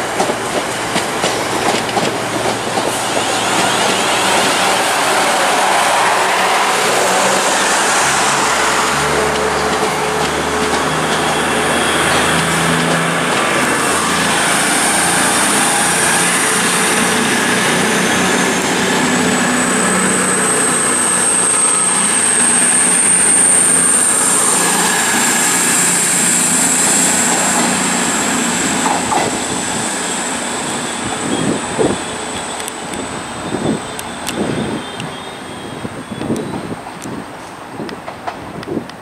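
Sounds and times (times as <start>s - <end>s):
train running and wheel noise: 0.0s - 39.0s
high wheel squeal: 2.8s - 36.8s.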